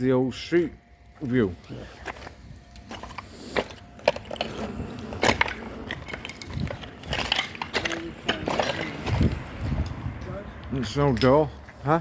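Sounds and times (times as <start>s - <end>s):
footsteps crunching on debris: 1.0s - 12.0s.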